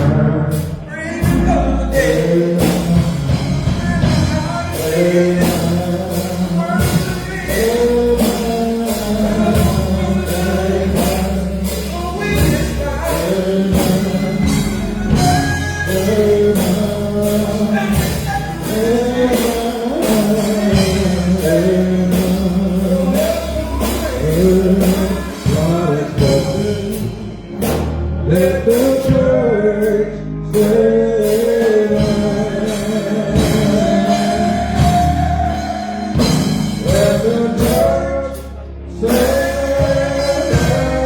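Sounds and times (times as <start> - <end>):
gospel song with band: 0.0 - 41.0.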